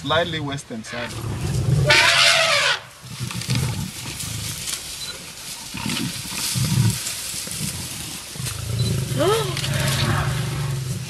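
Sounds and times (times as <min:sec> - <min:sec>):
lions growling and snarling: 0:00.9 - 0:11.0.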